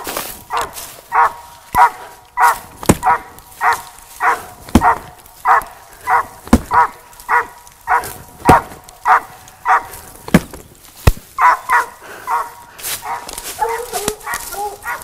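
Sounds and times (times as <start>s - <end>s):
dog barking: 0.5s - 10.0s, 11.4s - 15.0s.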